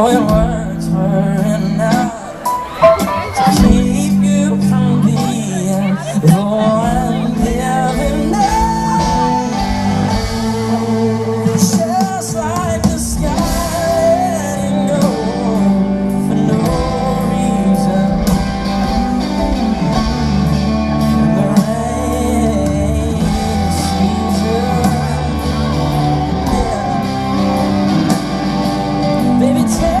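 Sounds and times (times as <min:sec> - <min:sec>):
man singing: 0:00.0 - 0:30.0
pop country band playing: 0:00.0 - 0:30.0.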